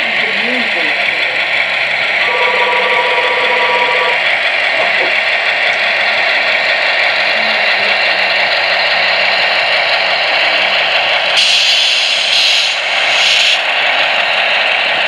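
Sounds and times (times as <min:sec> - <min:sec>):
diesel engine rumble: 0:00.0 - 0:15.0
wheels rattling on track: 0:00.0 - 0:15.0.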